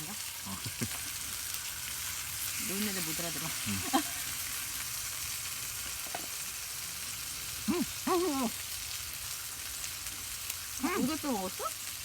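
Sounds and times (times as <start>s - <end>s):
pork sizzling on a grill pan: 0.0s - 12.0s.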